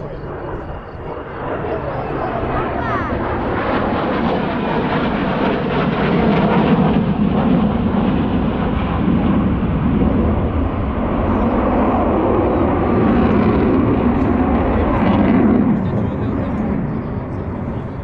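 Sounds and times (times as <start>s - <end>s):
aircraft flying over: 0.0s - 18.0s.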